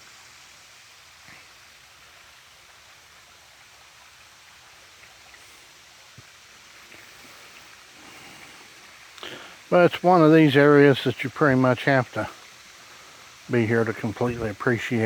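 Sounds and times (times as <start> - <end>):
outdoor ambient hiss: 0.0 - 15.0.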